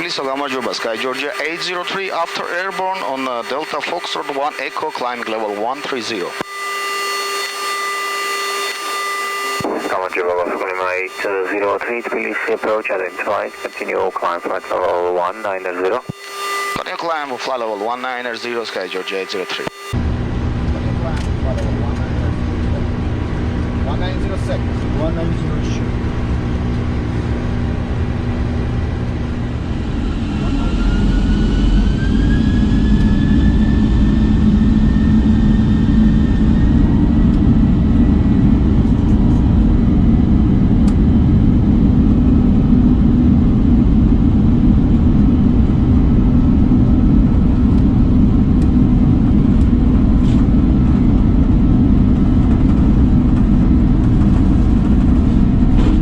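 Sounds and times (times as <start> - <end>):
airflow and engines rumbling: 0.0 - 6.5, 8.8 - 56.0
faint rising whine: 0.0 - 56.0.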